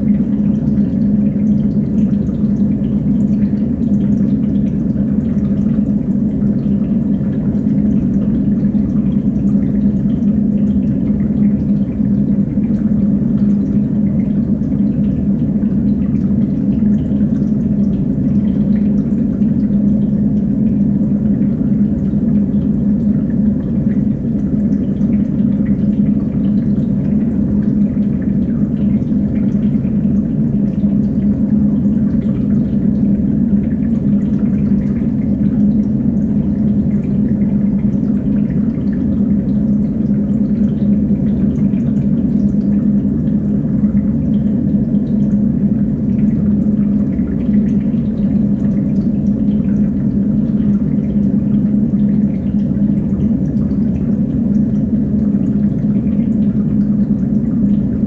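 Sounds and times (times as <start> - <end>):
faint water drips: 0.0 - 58.0
water bubbling in aquarium: 0.0 - 58.0.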